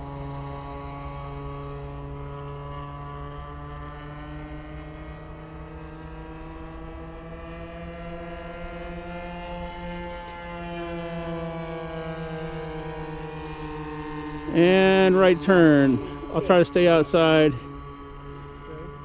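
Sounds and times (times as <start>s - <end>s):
model airplane engines droning: 0.0s - 19.0s.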